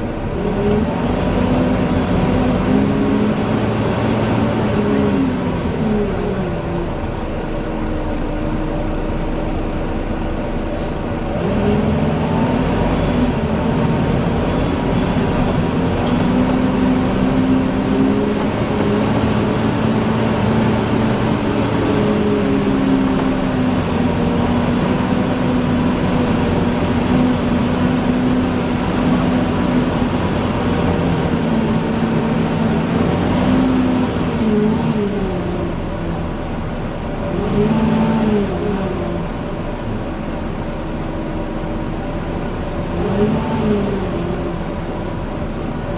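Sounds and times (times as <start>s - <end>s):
bus engine whine: 0.0s - 45.9s.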